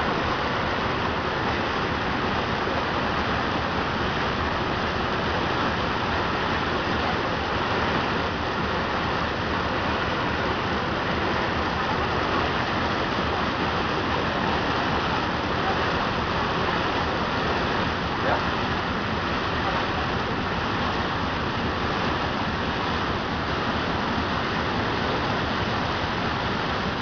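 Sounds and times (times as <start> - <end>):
steady rushing noise on ship: 0.0 - 27.0.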